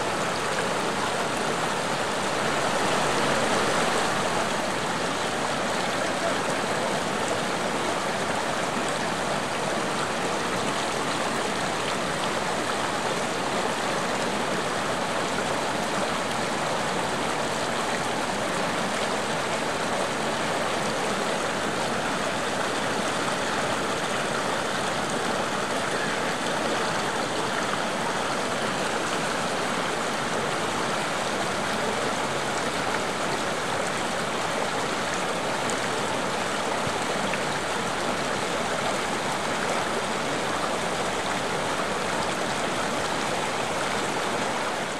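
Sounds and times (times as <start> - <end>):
stream water flowing and splashing: 0.0 - 44.9.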